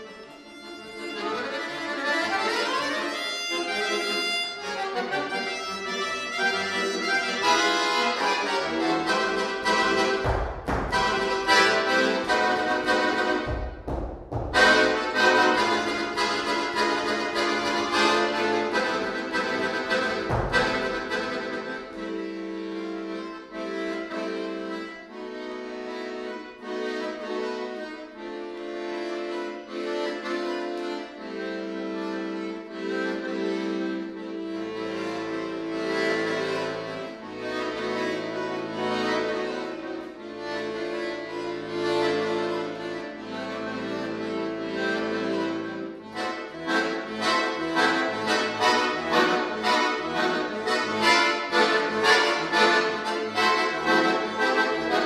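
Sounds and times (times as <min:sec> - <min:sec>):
accordion playing chords: 0:00.0 - 0:55.0.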